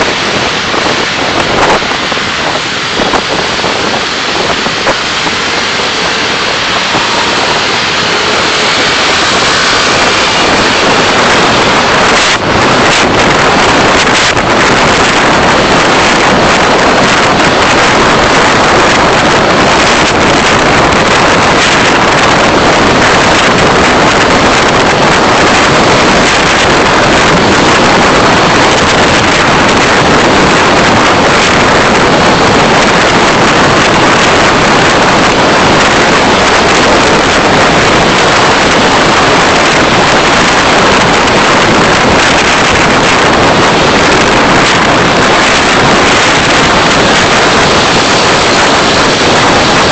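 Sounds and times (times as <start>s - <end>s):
car road and wind noise: 0.0s - 49.9s.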